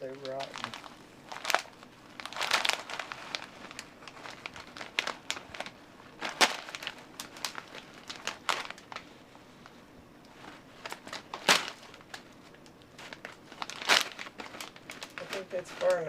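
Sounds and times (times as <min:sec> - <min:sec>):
packaging rustling and crackling: 0:00.0 - 0:16.0.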